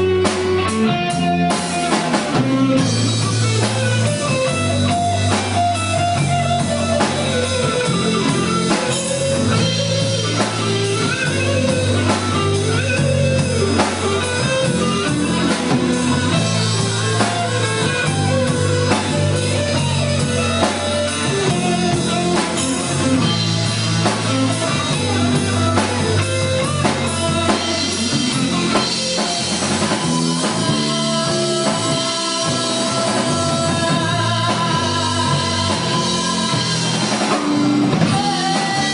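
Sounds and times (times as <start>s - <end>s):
bass guitar: 0.0s - 38.9s
drum kit: 0.0s - 38.9s
electric guitar melody: 0.0s - 38.9s.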